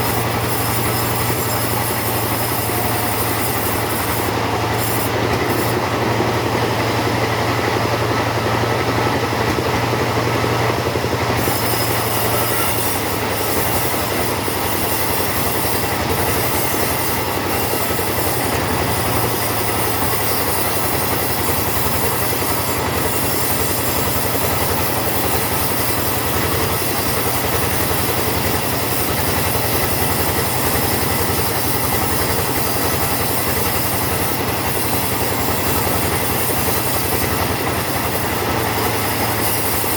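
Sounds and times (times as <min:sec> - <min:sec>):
chainsaw sawing a log: 0:00.0 - 0:39.9.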